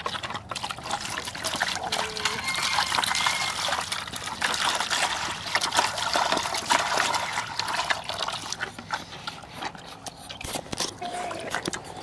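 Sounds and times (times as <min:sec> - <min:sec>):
water trickling into plastic bucket: 0:00.0 - 0:12.0.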